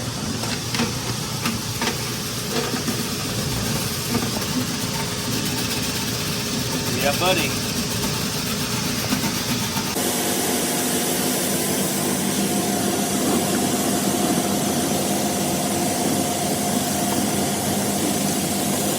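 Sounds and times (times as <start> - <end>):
duct-cleaning equipment humming: 0.0 - 18.9.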